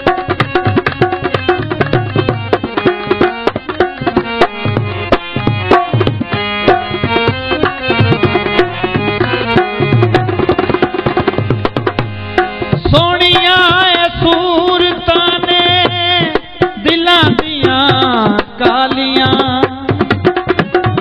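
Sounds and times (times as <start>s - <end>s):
harmonium chords: 0.0s - 21.0s
ornamented lead melody: 0.0s - 21.0s
tabla rhythm: 0.0s - 21.0s.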